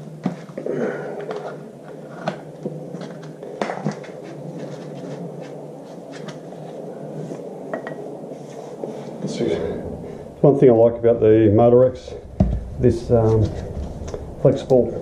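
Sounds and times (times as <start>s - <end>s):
steady low background noise: 0.0s - 15.0s.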